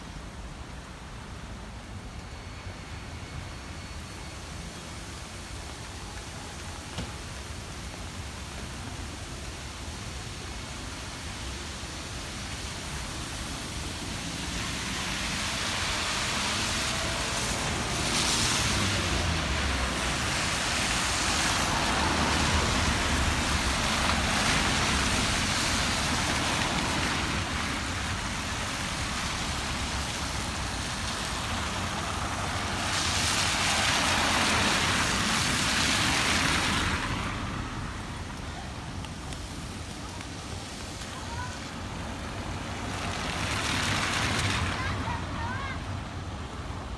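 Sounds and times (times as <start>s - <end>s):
road traffic passing: 0.0s - 46.9s.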